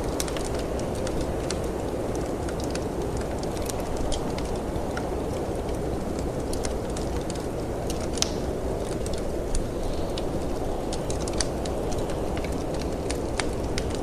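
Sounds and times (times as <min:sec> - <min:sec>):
storm wind rushing: 0:00.0 - 0:14.0
wood fire crackling and popping: 0:00.0 - 0:14.0.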